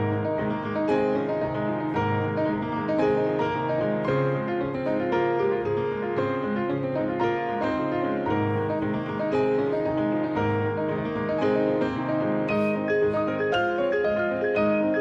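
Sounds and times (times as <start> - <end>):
instrumental keyboard music: 0.0 - 15.0.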